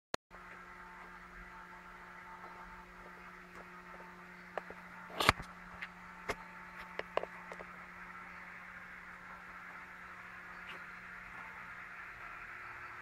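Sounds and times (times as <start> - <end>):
low electrical hum: 0.3 - 13.0.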